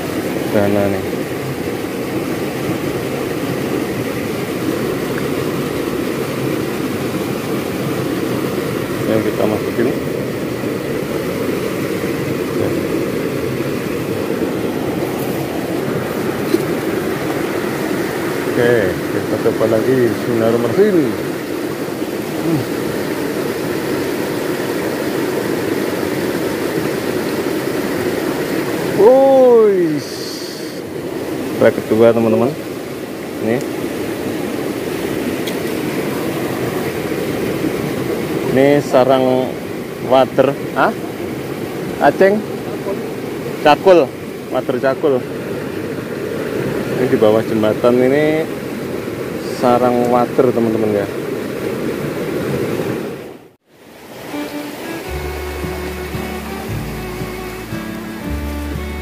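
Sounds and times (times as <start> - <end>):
stream water flowing over rocks: 0.0 - 59.0.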